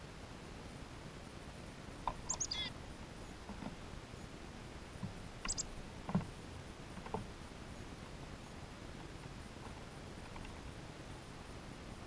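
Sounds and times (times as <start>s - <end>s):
songbirds chipping: 2.0s - 12.0s.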